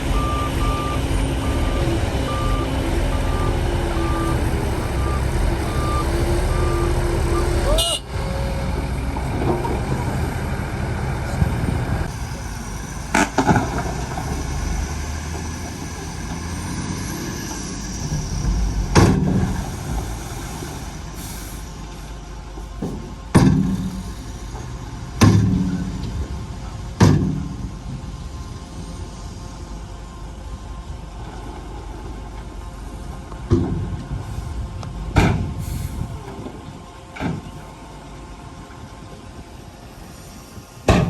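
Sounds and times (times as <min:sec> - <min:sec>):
diesel engine rumble: 0:00.0 - 0:41.0.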